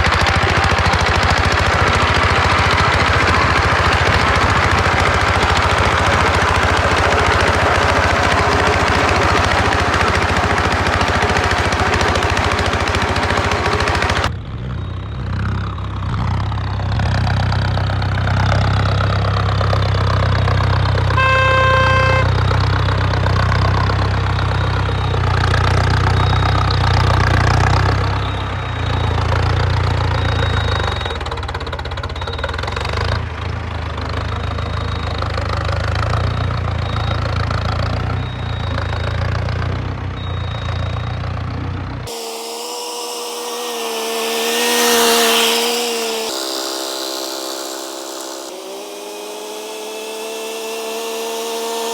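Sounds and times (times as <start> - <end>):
brief pitched tone: 0.0 - 16.3, 21.1 - 51.9
tractor engine rumbling: 0.0 - 50.2.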